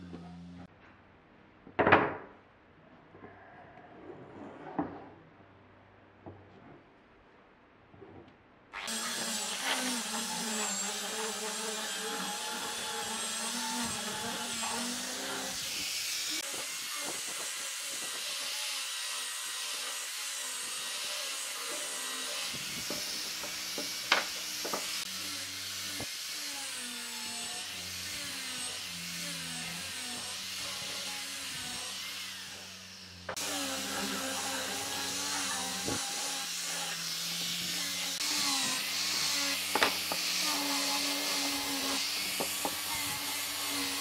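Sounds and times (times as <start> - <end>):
angle grinder sanding wood: 8.8 - 44.0.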